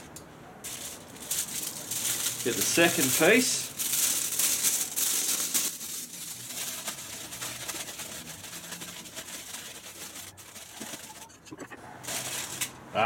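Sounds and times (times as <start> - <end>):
aluminium foil crinkling: 0.6 - 11.4, 12.0 - 12.8.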